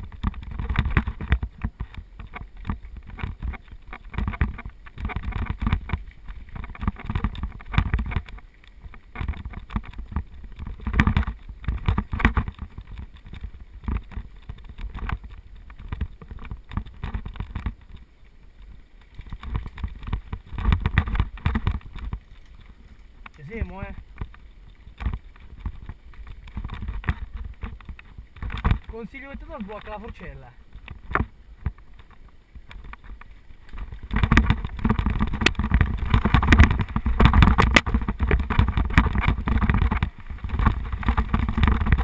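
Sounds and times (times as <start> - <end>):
bike rattling over bumps: 0.0 - 42.0
wind buffeting microphone: 0.0 - 42.0.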